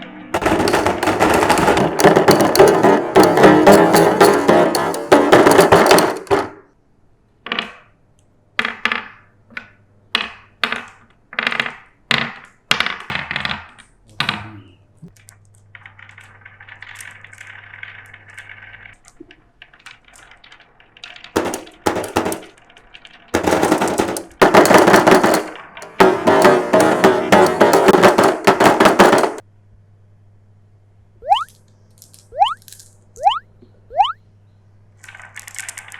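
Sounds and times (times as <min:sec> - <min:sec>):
marbles clattering down track: 0:00.4 - 0:06.7, 0:08.6 - 0:14.0, 0:15.2 - 0:29.4, 0:31.2 - 0:34.2, 0:35.0 - 0:35.9.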